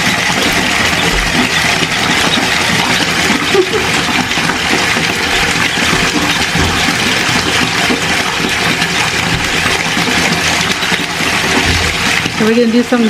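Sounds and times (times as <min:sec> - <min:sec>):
bathtub tap running into water: 0:00.0 - 0:13.0.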